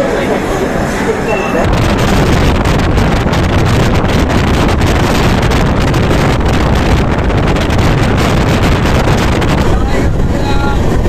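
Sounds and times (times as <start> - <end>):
train running rumble: 0.0 - 11.0
wind buffeting microphone: 1.6 - 11.0.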